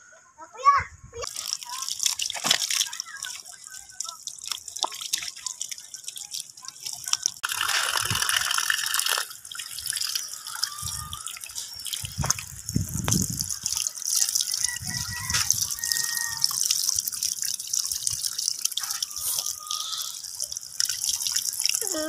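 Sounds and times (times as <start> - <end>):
water splashing from a tap: 1.2 - 22.0.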